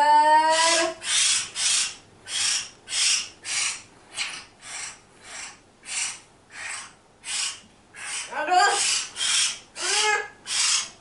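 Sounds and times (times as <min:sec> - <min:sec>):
myna chick raspy hissing calls: 0:00.5 - 0:11.0.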